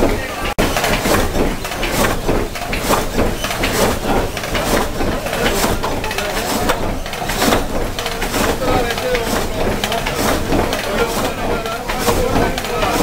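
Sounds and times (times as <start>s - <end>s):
frame saw knocking rhythmically: 0.0s - 13.0s.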